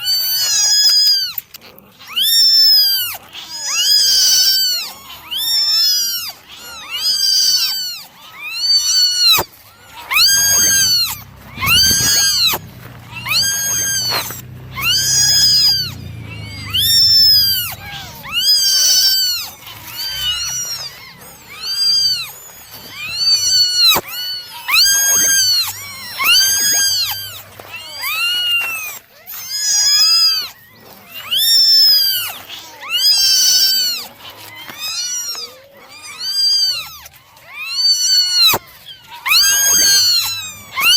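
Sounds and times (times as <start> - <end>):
kittens meowing: 0.0 - 40.9.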